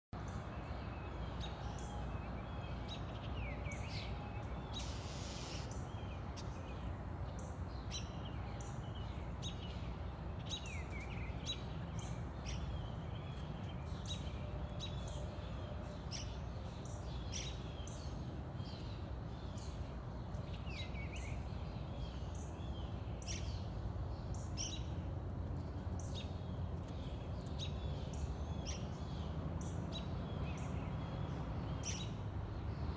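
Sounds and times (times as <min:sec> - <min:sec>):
songbirds chirping: 0:00.1 - 0:32.9.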